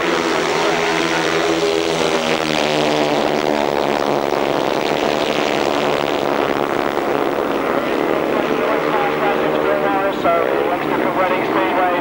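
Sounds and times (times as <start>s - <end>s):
racing motorcycles engine drone: 0.0s - 12.0s.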